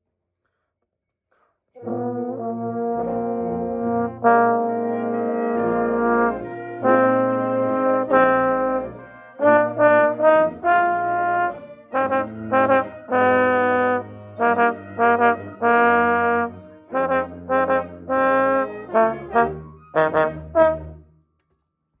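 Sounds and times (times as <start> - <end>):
trombone melody: 1.8 - 21.1.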